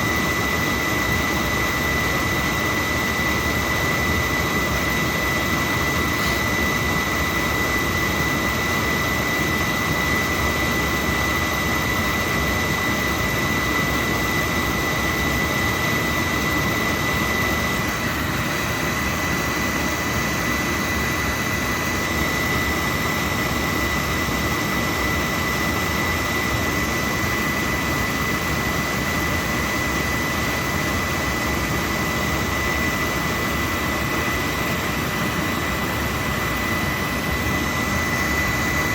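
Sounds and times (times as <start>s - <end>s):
boiler burner roaring: 0.0s - 38.9s
high whine: 0.0s - 38.9s.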